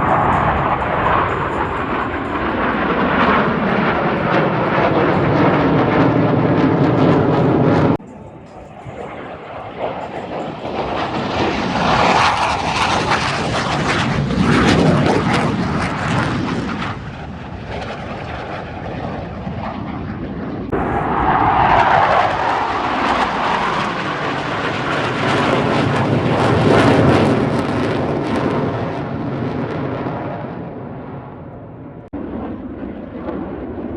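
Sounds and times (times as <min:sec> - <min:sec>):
airplane flying past: 0:00.0 - 0:33.9.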